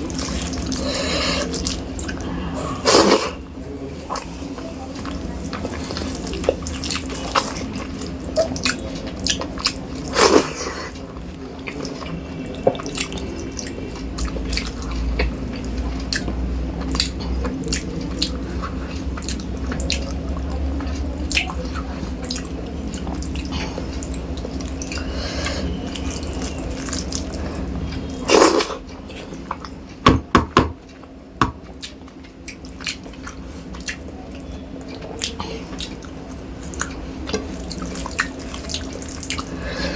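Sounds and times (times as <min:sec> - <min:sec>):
wet chewing and mouth sounds: 0:00.0 - 0:30.1, 0:30.7 - 0:39.9
steady low hum: 0:00.0 - 0:39.9.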